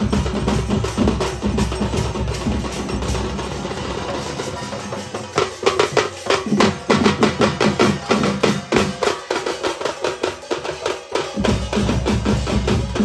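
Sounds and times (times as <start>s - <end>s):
barrel drums beaten with sticks: 0.0s - 13.0s.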